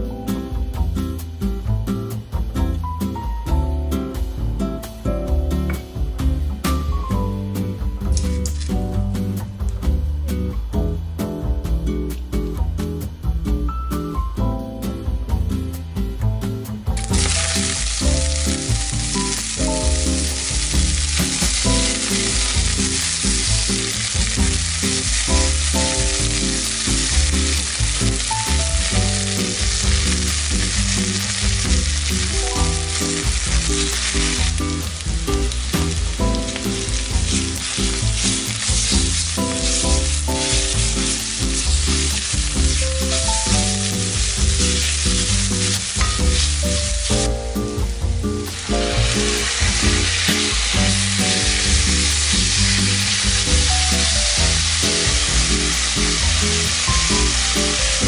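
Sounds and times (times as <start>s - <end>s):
onions sizzling in oil: 3.9s - 11.0s, 15.0s - 58.0s.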